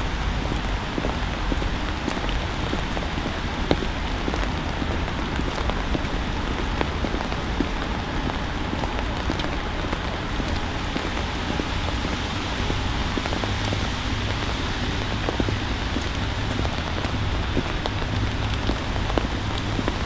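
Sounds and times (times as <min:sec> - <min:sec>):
constant low rumble: 0:00.0 - 0:20.0
rain and wet snow falling: 0:00.0 - 0:20.0.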